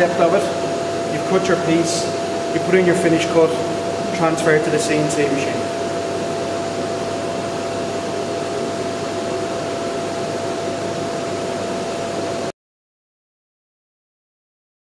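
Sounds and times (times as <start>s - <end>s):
machine whirr with hum: 0.0s - 12.6s.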